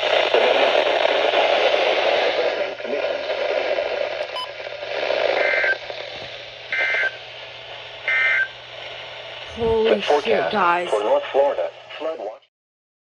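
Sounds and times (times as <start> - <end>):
radio static hiss: 0.0 - 12.5.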